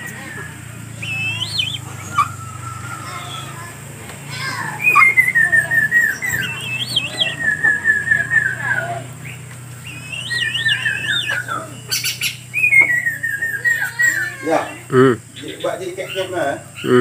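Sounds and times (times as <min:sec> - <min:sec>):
bird singing whistled notes: 0:00.0 - 0:03.6, 0:04.5 - 0:16.9
steady low hum: 0:00.0 - 0:17.0.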